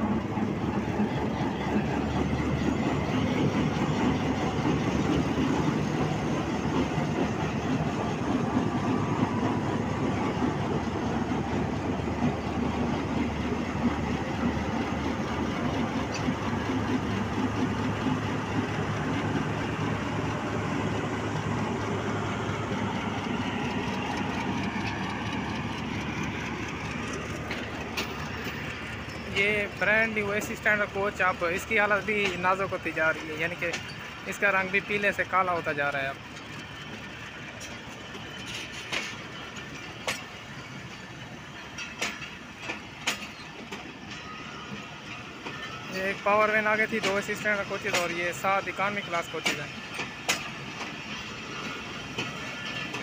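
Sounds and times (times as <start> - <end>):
diesel locomotive engine running: 0.0 - 53.0
train coaches rolling over rails: 0.0 - 53.0.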